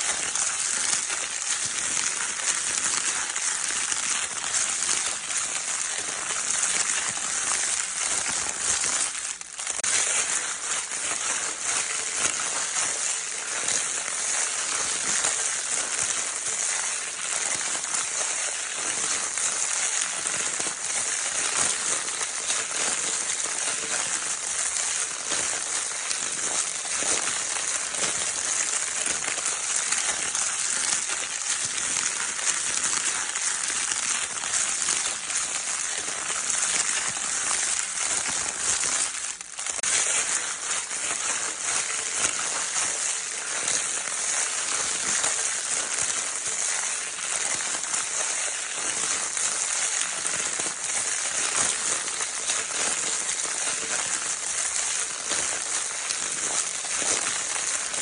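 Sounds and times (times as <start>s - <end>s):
crinkle paper being scrunched: 0.0s - 58.0s.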